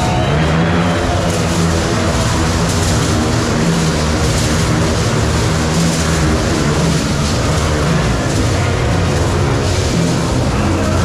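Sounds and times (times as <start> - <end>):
motorcycle engines revving high: 0.0 - 11.0.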